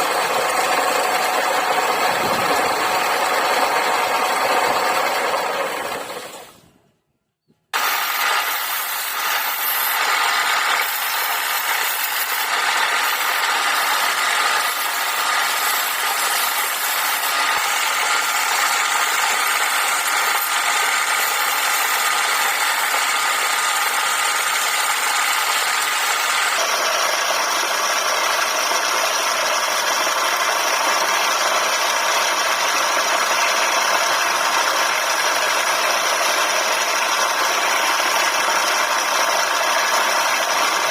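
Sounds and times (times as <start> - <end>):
wood lathe running: 0.0 - 6.6, 7.8 - 40.9.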